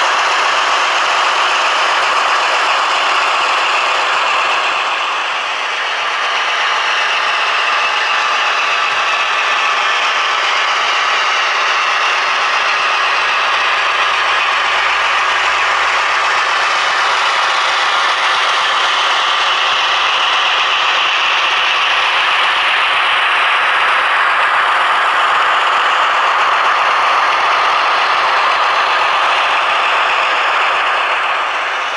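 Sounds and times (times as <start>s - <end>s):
model train whirring and rattling: 0.0s - 31.9s.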